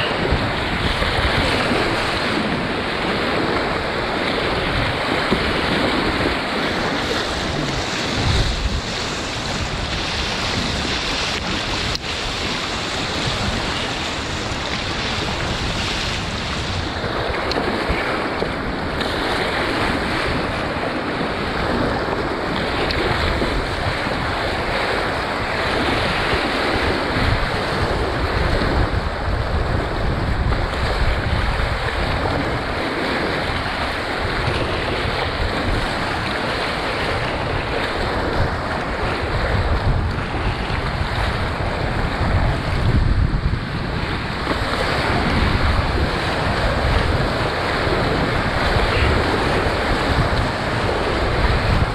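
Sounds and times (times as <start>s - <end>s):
whitewater rapids roaring: 0.0s - 51.9s
wind buffeting microphone: 0.0s - 51.9s.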